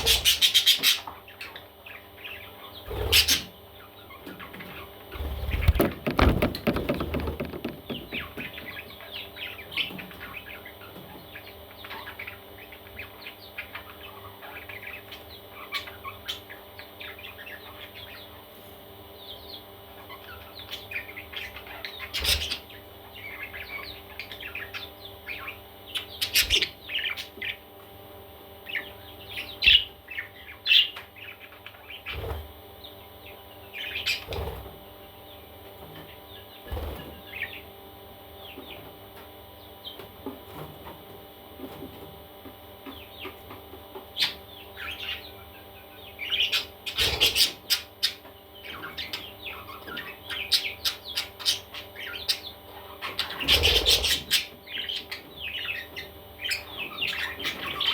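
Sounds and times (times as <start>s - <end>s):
faint steady hum: 0.0s - 57.9s
parrot chicks chirping: 0.0s - 57.9s.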